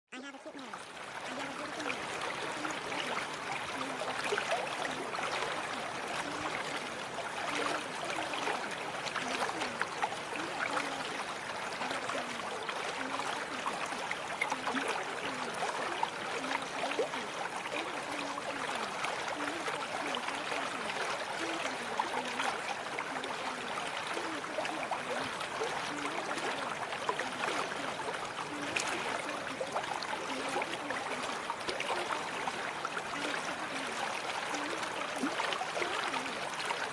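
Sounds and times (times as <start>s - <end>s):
running water: 0.1s - 36.9s
water dripping ticks: 0.2s - 36.9s.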